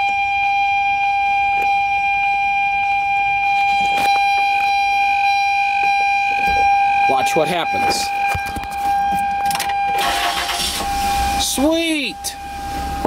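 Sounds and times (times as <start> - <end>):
high electronic buzzer tone: 0.0 - 13.0.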